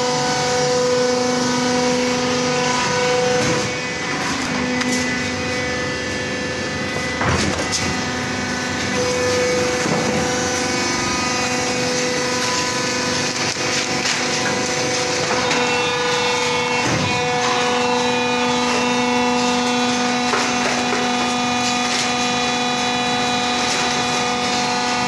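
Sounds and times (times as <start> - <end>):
injection moulding machine hum: 0.0 - 25.0.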